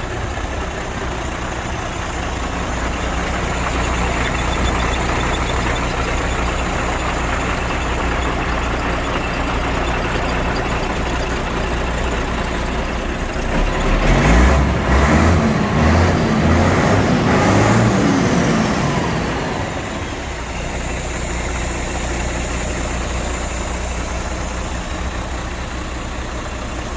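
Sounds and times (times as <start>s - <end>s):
diesel truck engine idling and revving: 0.0s - 26.9s.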